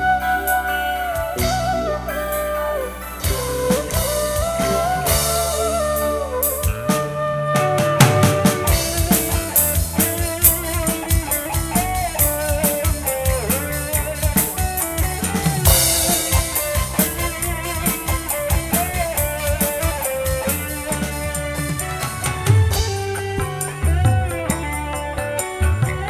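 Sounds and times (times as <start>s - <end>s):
drum kit beat: 0.0s - 26.0s
electric guitar: 0.0s - 26.0s
keyboard: 0.0s - 26.0s
pitch-bending lead melody: 0.0s - 26.0s.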